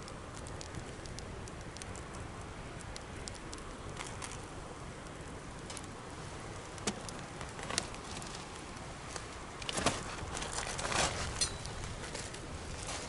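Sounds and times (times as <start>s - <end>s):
bonfire crackling and hissing: 0.0s - 13.0s
burning wood popping: 0.0s - 13.0s.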